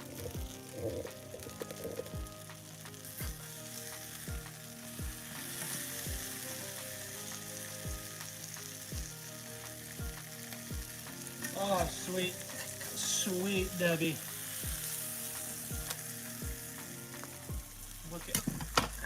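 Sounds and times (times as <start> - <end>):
sandwich sizzling in a pan: 0.0 - 19.0.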